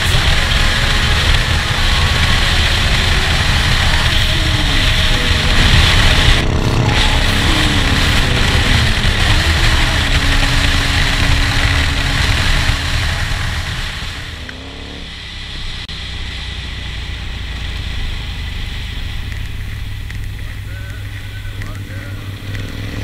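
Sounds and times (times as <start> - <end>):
motorcycle engine: 0.0 - 23.0
wind rush on microphone: 0.0 - 23.0.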